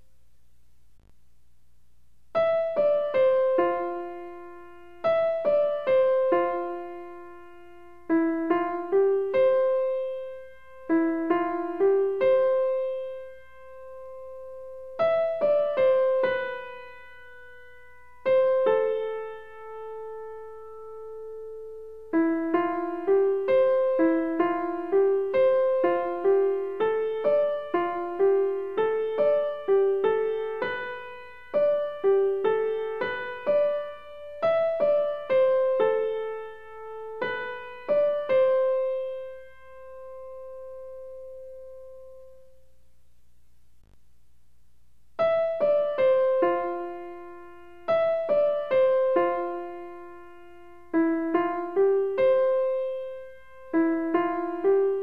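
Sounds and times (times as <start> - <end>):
slow keyboard melody: 2.4 - 42.8, 45.2 - 55.0.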